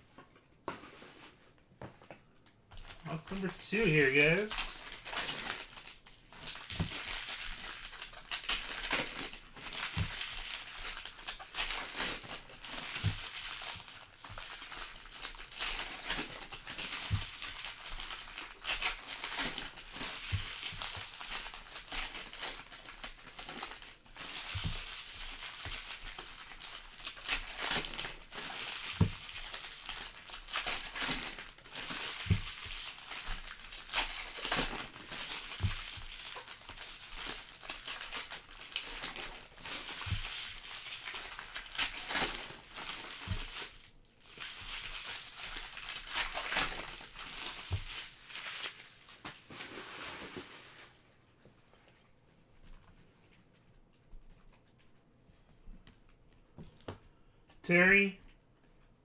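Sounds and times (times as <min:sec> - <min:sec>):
plastic wrapping crinkling and tearing: 0:02.8 - 0:51.2.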